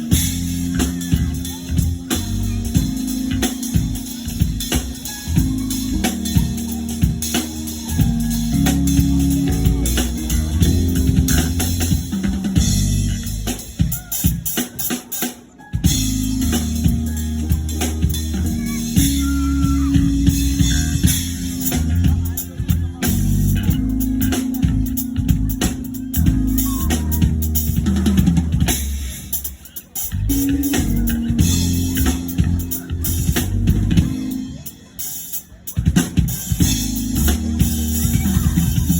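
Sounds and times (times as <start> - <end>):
song with drum beat and bass: 0.0 - 38.9.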